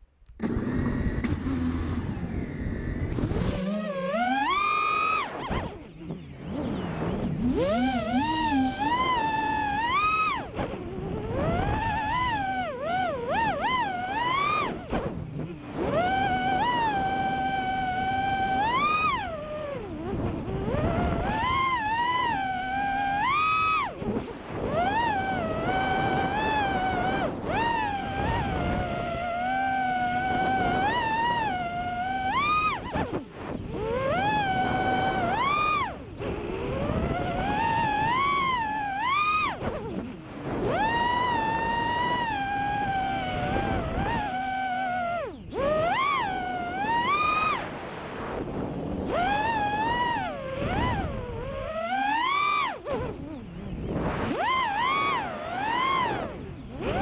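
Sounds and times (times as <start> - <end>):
drone motors and propellers whining: 0.0 - 57.0.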